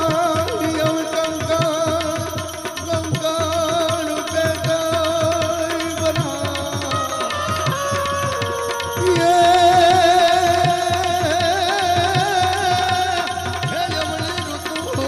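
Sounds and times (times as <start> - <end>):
tabla beat: 0.0 - 15.0.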